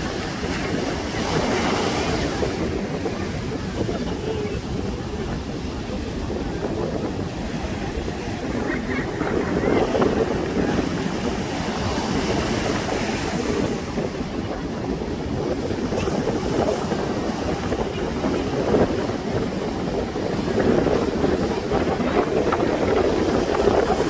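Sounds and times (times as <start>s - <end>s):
ocean surf washing onto beach: 0.0s - 24.0s
wind rumbling on microphone: 0.0s - 24.0s.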